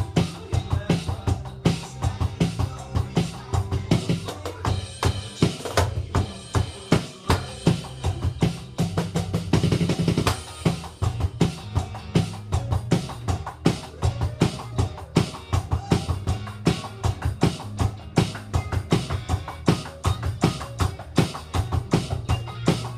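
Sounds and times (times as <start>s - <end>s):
backing track of bass and band: 0.0s - 22.9s
electronic drum kit beat: 0.0s - 22.9s.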